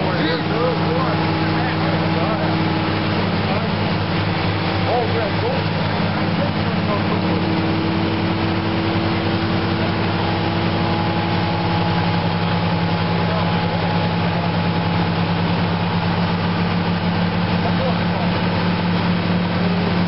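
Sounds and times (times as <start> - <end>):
fire engines droning: 0.0 - 20.0.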